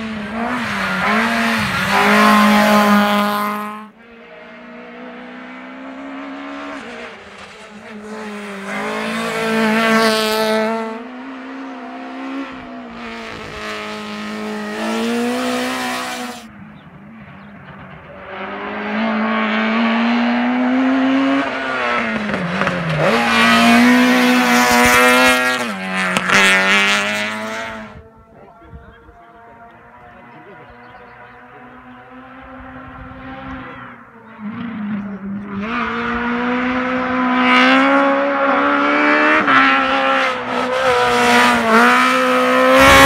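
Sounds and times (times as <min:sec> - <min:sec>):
race car engine revving: 0:00.0 - 0:43.0.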